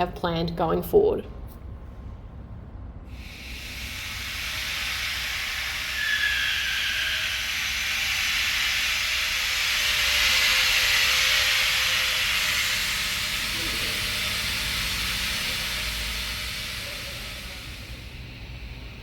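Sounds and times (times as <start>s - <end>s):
compressed air hissing: 3.1s - 19.0s.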